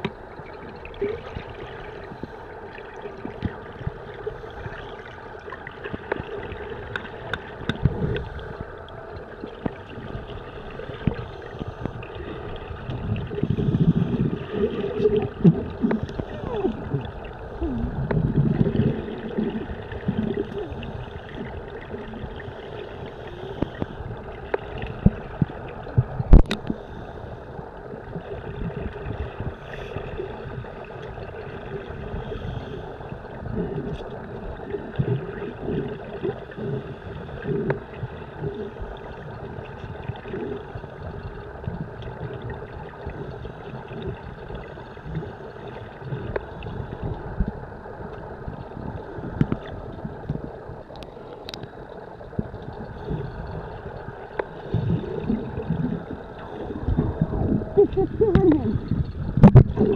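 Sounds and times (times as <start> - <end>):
gurgling exhaled bubbles: 0.0 - 59.9
steady underwater rumble: 0.0 - 59.9.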